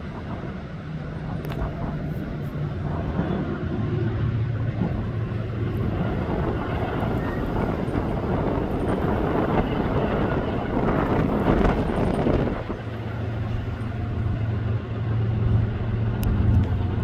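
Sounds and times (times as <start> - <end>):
diesel train engine drone: 0.0 - 17.0
train rushing noise: 0.0 - 17.0.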